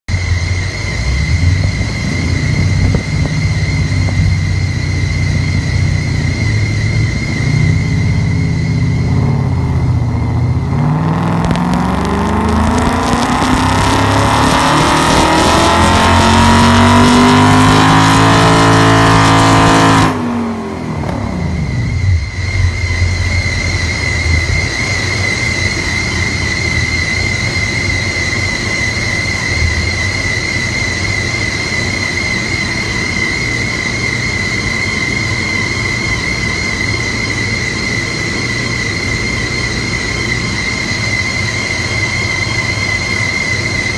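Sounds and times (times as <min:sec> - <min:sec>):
car engine revving: 0:00.1 - 0:43.9
high whine: 0:00.1 - 0:43.9.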